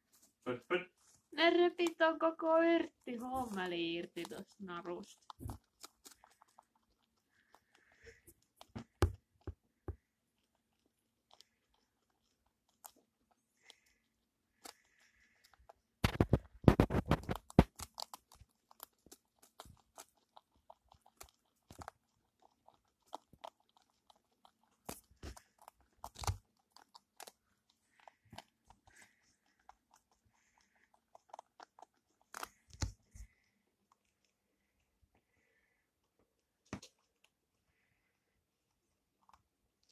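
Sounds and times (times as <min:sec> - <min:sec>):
guinea pigs crunching herbs: 0:01.0 - 0:35.2.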